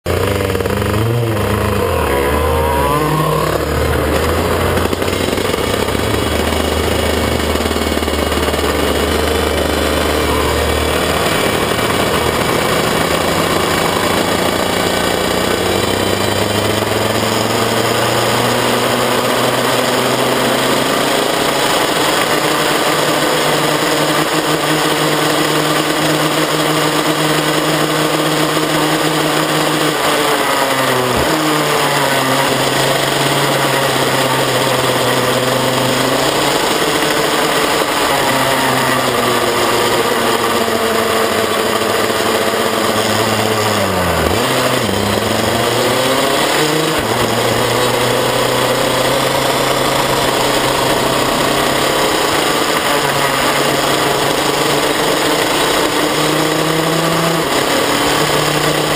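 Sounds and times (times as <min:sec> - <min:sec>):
two-stroke kart engine revving: 0:00.0 - 0:58.9.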